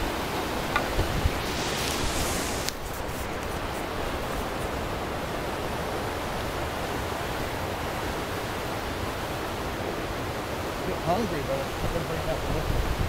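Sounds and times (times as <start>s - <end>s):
whitewater rushing over rocks: 0.0s - 13.0s.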